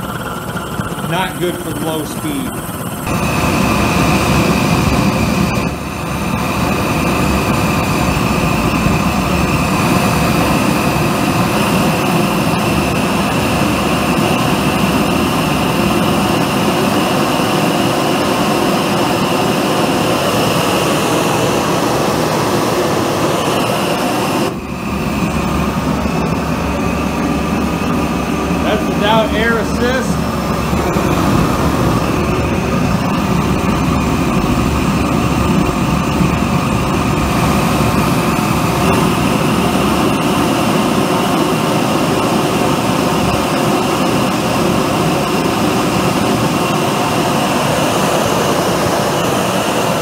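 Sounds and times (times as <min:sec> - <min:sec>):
faint high whine: 0:00.0 - 0:41.7
forge burner roaring: 0:00.0 - 0:50.0.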